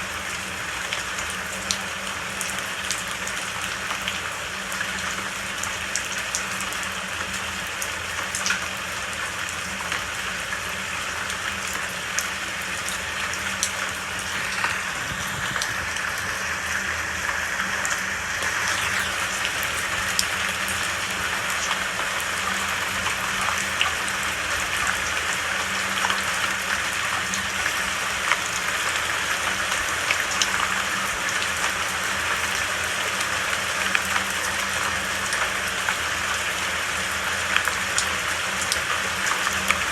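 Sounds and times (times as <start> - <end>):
steady rain falling: 0.0 - 39.9
close raindrop patter: 0.1 - 39.9.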